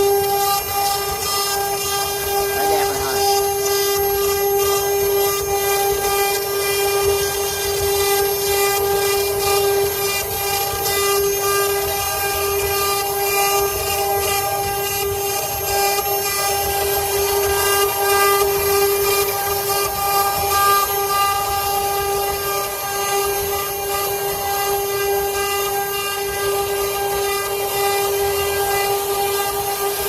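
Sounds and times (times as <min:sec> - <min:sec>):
bits cutting wood: 0:00.0 - 0:25.4
router spindles whining: 0:00.0 - 0:30.0.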